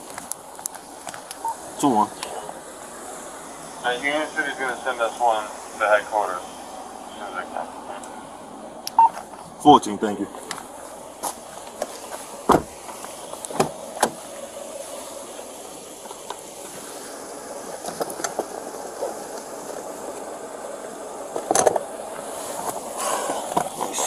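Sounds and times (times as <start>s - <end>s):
vehicle and road noise: 0.0s - 24.0s.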